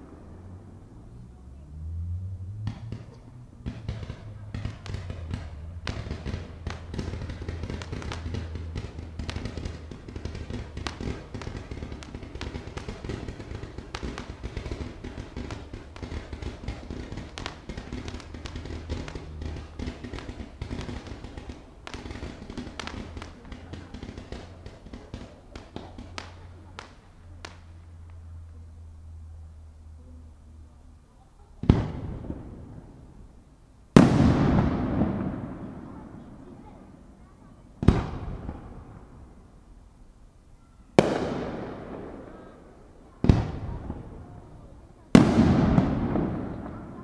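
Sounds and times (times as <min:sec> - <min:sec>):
fireworks crackling and popping: 0:00.0 - 0:47.0.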